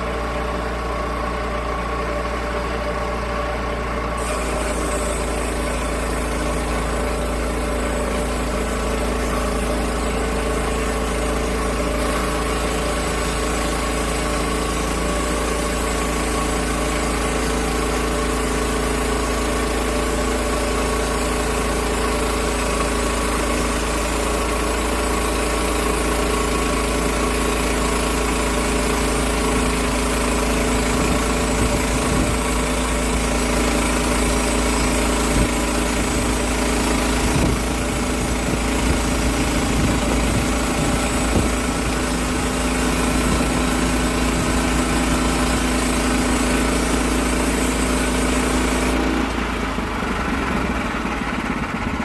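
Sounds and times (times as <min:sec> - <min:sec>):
sawmill engine cutting log: 0:00.0 - 0:52.0.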